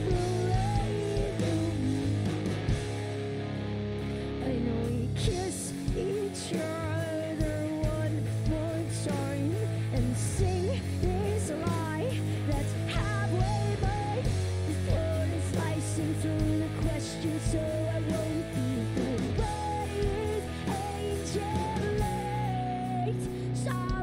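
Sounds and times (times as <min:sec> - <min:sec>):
rock band playing live: 0:00.0 - 0:24.0.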